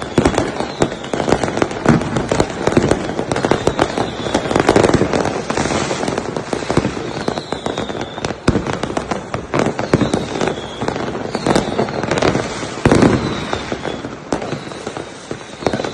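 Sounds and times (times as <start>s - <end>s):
fireworks bangs and crackles: 0.0s - 15.9s.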